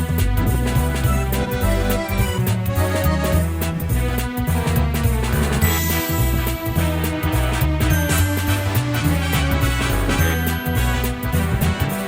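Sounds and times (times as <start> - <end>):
steady bass line: 0.0 - 12.0
sustained keyboard chords: 0.0 - 12.0.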